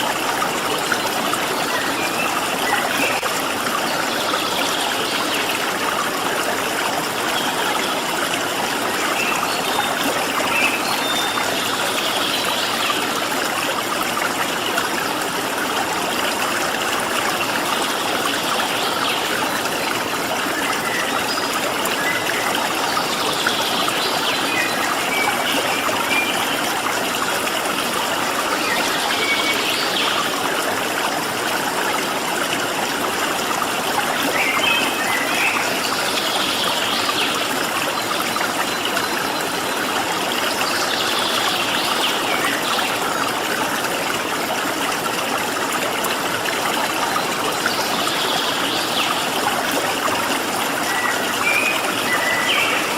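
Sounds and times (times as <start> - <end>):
flowing stream: 0.0 - 52.9.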